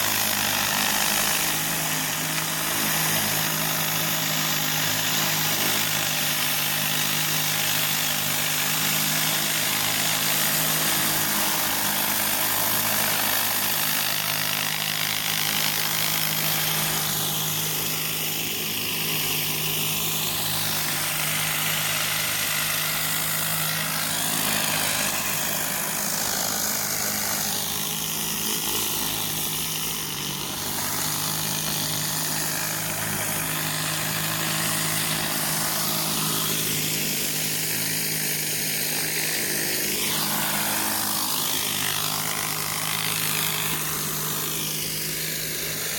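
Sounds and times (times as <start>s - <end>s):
high-pressure water spray hiss: 0.0s - 45.9s
pressure washer engine running: 0.0s - 45.9s.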